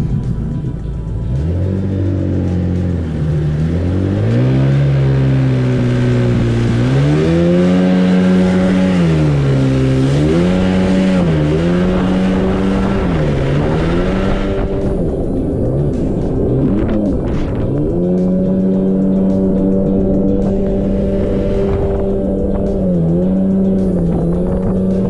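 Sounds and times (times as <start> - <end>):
jet ski engine: 0.0 - 25.0.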